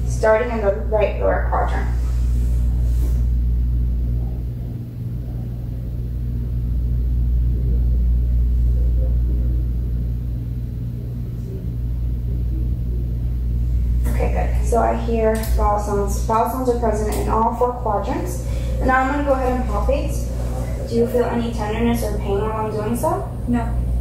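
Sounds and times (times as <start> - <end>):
low background rumble and hum: 0.0 - 24.0.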